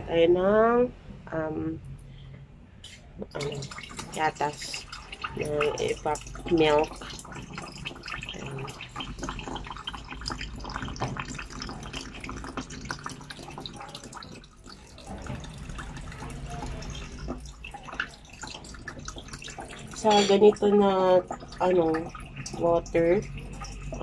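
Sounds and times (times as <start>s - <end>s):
milk trickling into water: 3.3s - 24.0s.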